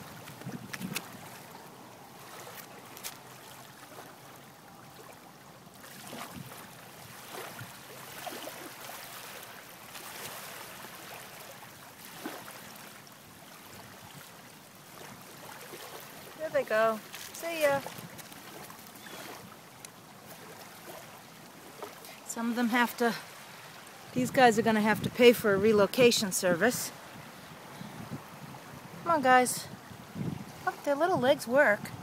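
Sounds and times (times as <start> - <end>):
water lapping and trickling: 0.0 - 32.0.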